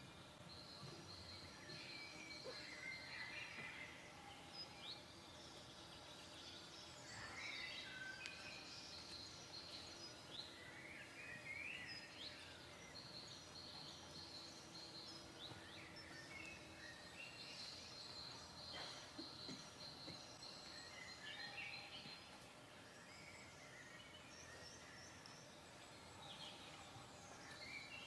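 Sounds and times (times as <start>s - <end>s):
faint songbirds singing: 0.0s - 28.0s.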